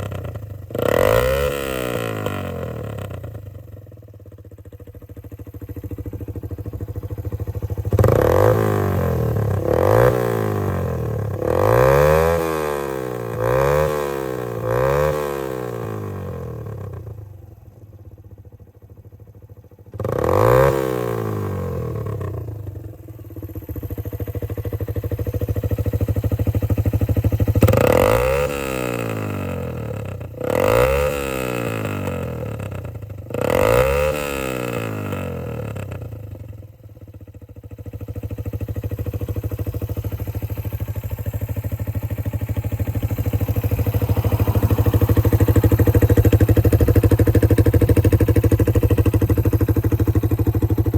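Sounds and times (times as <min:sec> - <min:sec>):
motorcycle engine idling: 0:00.0 - 0:50.9
motorcycle engine revving: 0:00.0 - 0:50.9.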